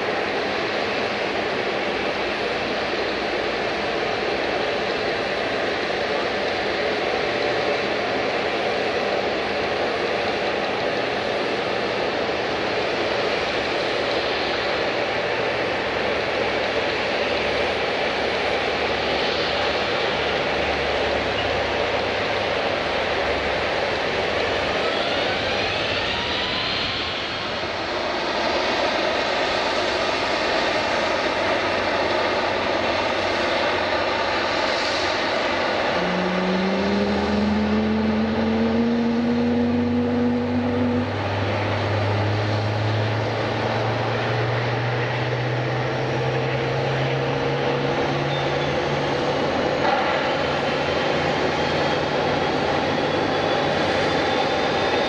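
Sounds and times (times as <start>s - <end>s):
airliner engines running: 0.0s - 55.0s.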